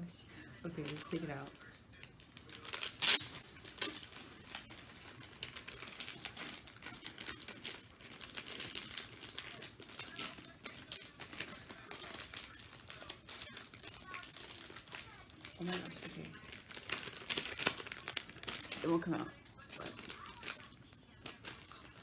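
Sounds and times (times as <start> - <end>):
plastic bag crinkling: 0.3 - 22.0.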